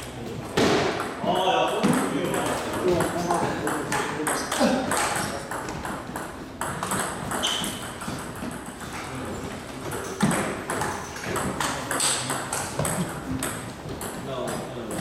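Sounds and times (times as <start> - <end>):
table tennis balls clicking: 0.9 - 15.0.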